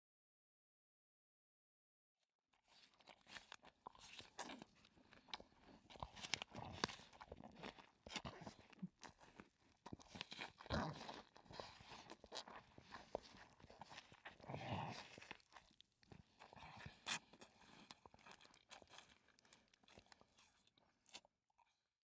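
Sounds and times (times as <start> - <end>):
baboon chewing with crunches: 2.6 - 21.9.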